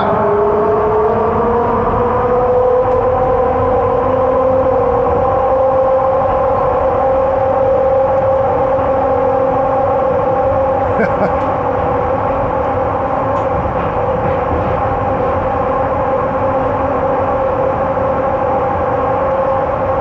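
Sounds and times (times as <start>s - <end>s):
electric train drive whine: 0.0s - 20.0s
train low rumble: 0.0s - 20.0s.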